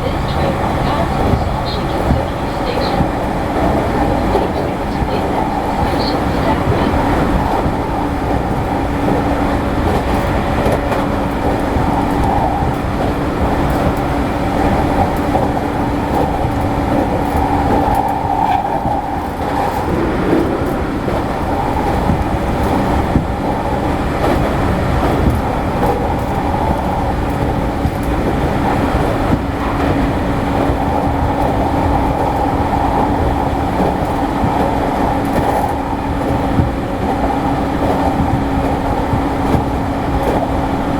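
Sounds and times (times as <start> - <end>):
clicks at rail joints: 0.0 - 40.9
steady hum: 0.0 - 40.9
train wheels rumbling on rail: 0.0 - 40.9.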